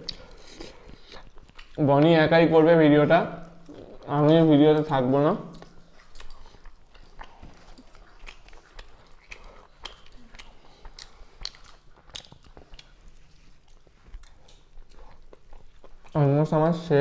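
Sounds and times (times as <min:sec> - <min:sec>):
chewing and mouth sounds: 0:00.0 - 0:02.4, 0:03.3 - 0:17.0.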